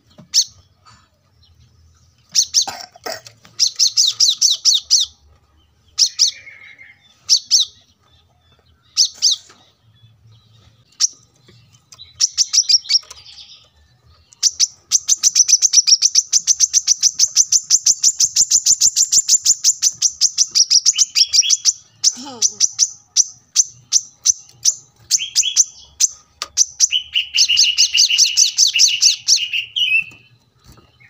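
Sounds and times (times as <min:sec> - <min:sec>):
bird chirping and trilling: 0:00.0 - 0:00.8, 0:01.4 - 0:31.0.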